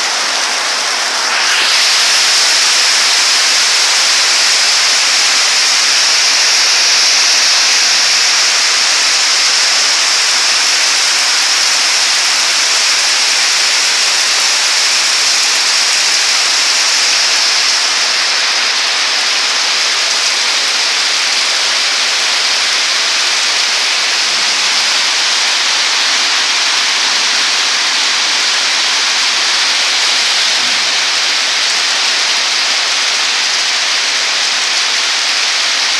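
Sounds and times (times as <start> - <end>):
heavy rain hissing: 0.0 - 35.9.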